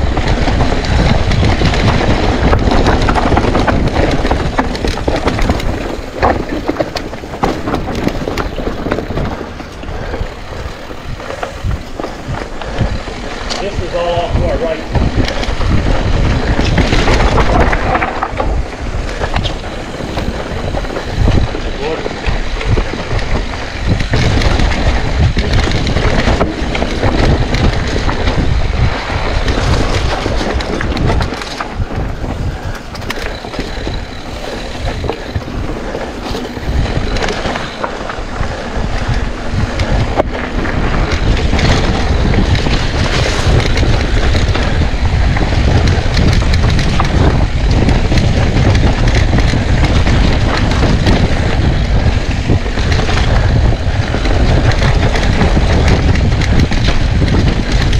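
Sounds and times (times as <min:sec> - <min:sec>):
bike knocking and rattling: 0:00.0 - 0:57.9
bike tyres rolling over dirt: 0:00.0 - 0:57.9
wind rumbling on microphone: 0:00.0 - 0:57.9.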